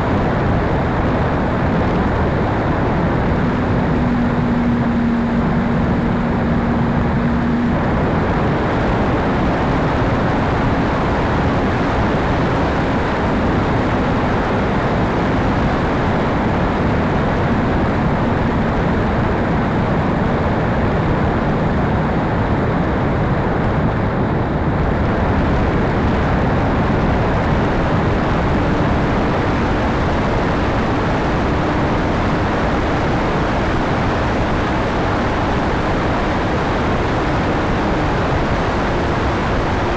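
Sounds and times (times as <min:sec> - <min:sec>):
wind across microphone: 0:00.0 - 0:39.9.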